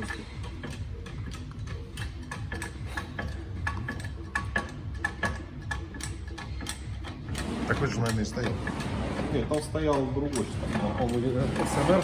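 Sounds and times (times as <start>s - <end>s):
metal tools clicking and clinking: 0.0s - 12.0s.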